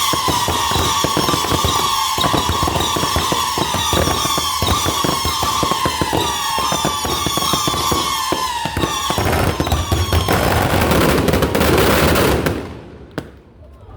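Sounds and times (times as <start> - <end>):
fireworks whistling: 0.0 - 13.5
firecrackers popping and crackling: 0.0 - 13.7.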